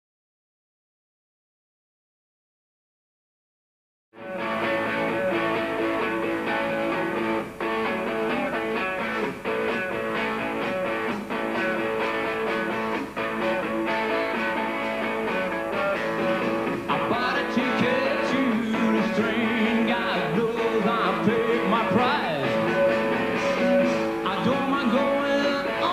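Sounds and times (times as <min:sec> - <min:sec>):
rock band playing live: 0:04.2 - 0:25.9.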